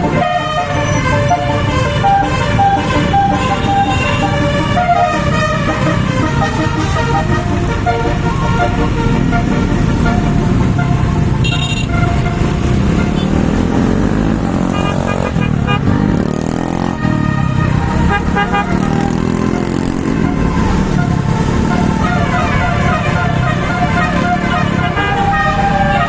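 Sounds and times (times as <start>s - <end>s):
musical bus air horn toots: 0.0s - 13.5s, 16.5s - 26.0s
engines and road traffic: 0.0s - 26.0s.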